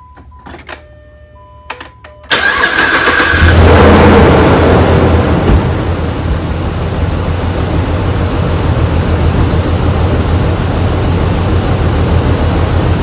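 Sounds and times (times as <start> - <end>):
car engine idling unevenly: 2.3 - 13.0.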